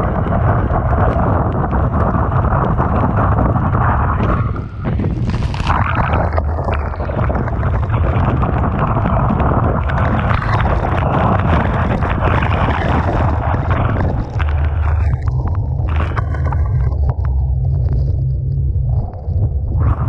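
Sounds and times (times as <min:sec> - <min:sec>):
surf breaking: 0:00.0 - 0:17.2
wind buffeting microphone: 0:00.0 - 0:20.0.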